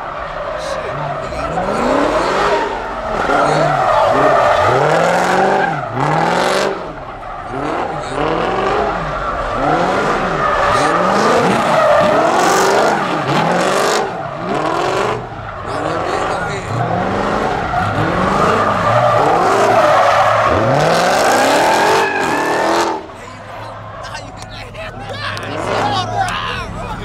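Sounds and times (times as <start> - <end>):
car engine revving: 0.0 - 27.0
tyres squealing: 0.0 - 27.0.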